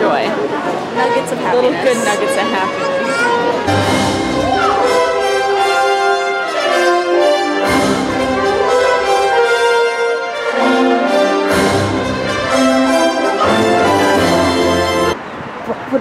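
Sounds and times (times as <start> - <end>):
sustained brass chords: 0.9 - 15.2
orchestral music: 1.0 - 15.2.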